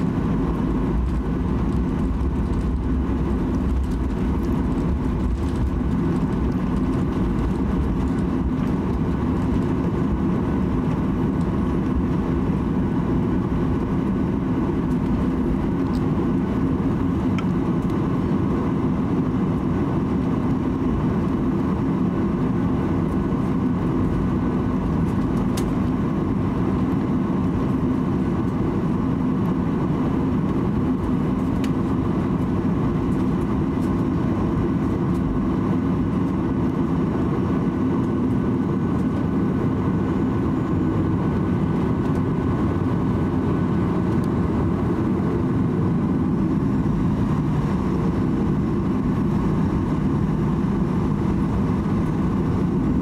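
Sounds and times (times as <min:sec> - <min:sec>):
jet engines running at low power: 0:00.0 - 0:53.0.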